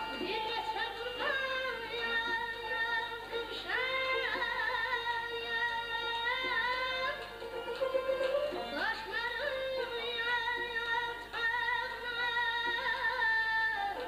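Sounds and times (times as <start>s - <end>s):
bowed and plucked lute accompaniment: 0.0s - 14.0s.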